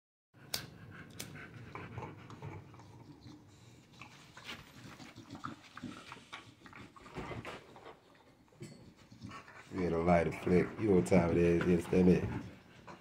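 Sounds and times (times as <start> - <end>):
dogs panting: 0.4 - 13.0
dogs chewing on toys: 1.1 - 13.0.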